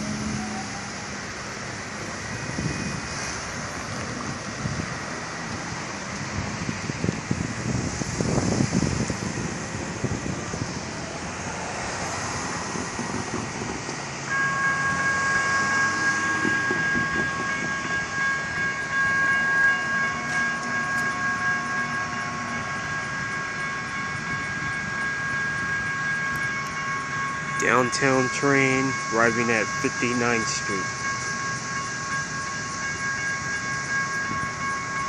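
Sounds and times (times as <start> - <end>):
crossing warning bell ringing: 0.0 - 35.0
light rail train running: 0.0 - 35.0.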